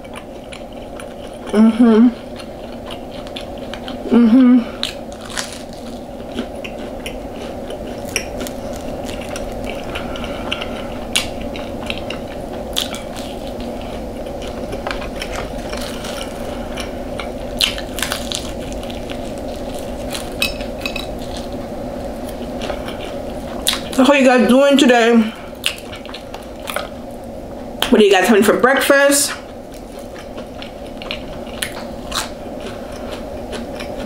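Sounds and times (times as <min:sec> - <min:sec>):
crunching and chewing: 0:00.0 - 0:24.1, 0:25.4 - 0:27.9, 0:29.4 - 0:34.0
low hum: 0:00.0 - 0:34.0.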